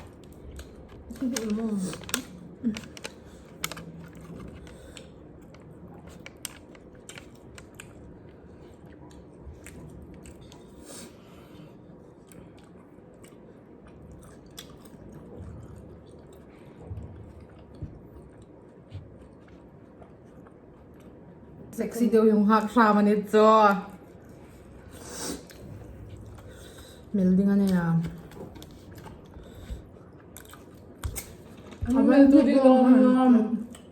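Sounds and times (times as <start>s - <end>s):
person chewing food: 0.0s - 21.6s, 24.0s - 31.8s.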